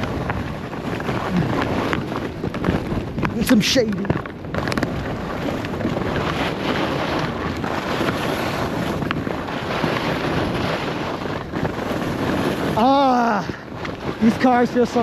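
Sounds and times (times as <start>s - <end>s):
skis sliding on snow: 0.0s - 15.0s
wind buffeting microphone: 0.0s - 15.0s.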